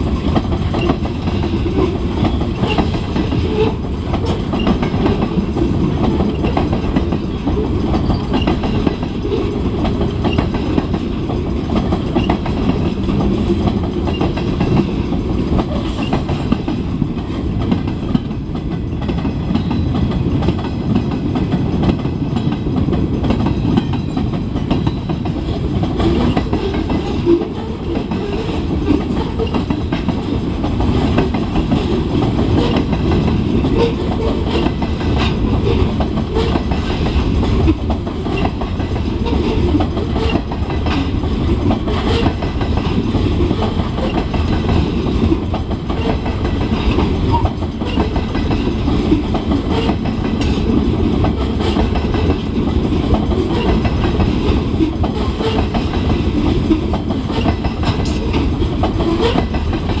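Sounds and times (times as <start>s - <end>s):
train wheels rumbling on rail: 0.0s - 60.0s
wheels clacking over rail joints: 0.0s - 60.0s.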